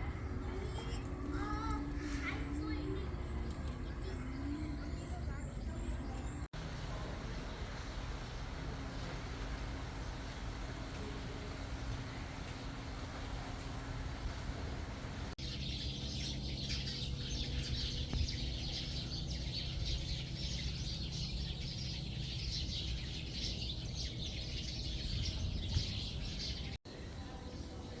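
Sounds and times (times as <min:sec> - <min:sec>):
steady low rumble: 0:00.0 - 0:26.8
birds chirping and twittering: 0:00.0 - 0:28.0.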